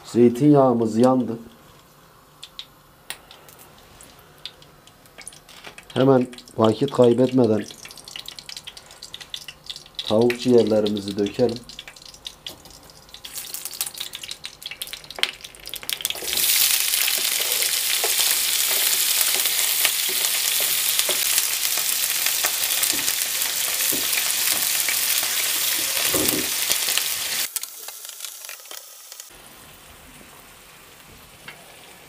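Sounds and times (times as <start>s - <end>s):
food sizzling in frying pan: 3.5s - 32.0s.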